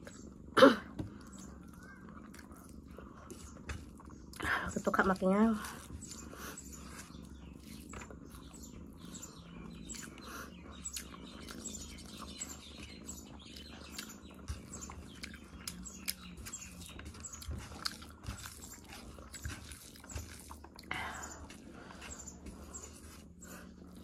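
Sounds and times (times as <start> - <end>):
steady low hum: 0.0 - 24.0
wet chewing: 0.0 - 24.0.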